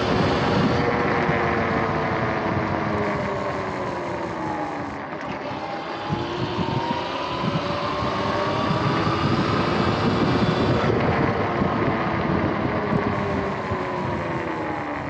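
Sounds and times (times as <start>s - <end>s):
electric motor whining: 0.0s - 15.0s
wind buffeting microphone: 0.0s - 15.0s.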